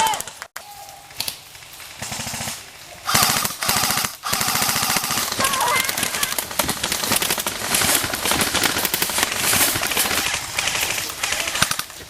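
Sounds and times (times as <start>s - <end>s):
airsoft guns firing bursts: 2.0s - 12.0s.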